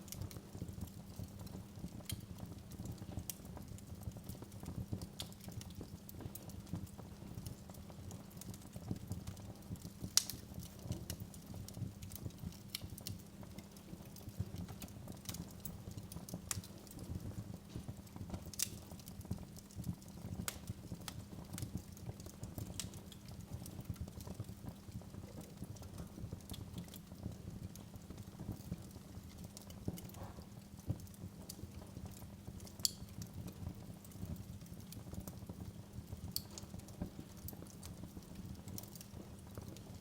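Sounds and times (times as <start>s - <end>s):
fire pops and snaps: 0.0s - 40.0s
wood fire crackling: 0.0s - 40.0s.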